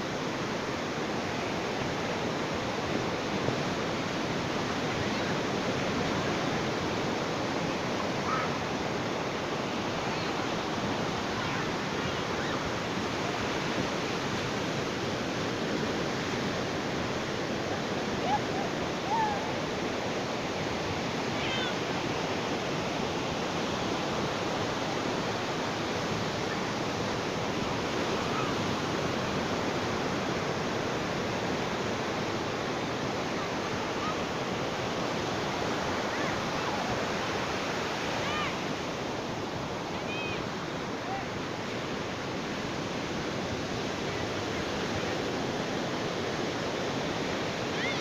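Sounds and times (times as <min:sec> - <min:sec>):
ocean surf washing on beach: 0:00.0 - 0:48.0.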